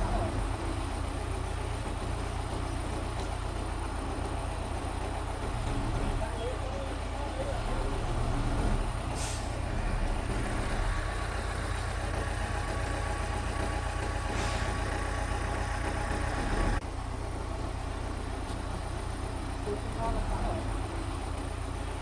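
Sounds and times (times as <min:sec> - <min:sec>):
bulldozer diesel engine idling: 0:00.0 - 0:22.0.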